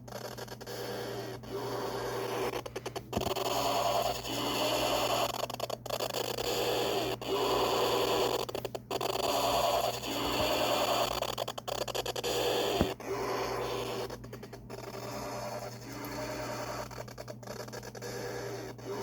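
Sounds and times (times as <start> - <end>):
computer warbling buzzing noise: 0.0 - 19.0
steady low hum: 0.0 - 19.0.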